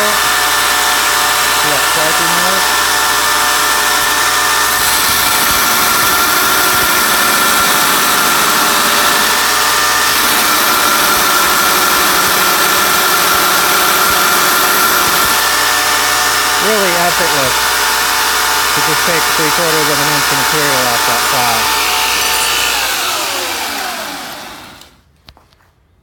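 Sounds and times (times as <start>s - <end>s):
belt and motor whine: 0.0s - 25.0s
belt grinder grinding steel: 0.0s - 25.0s.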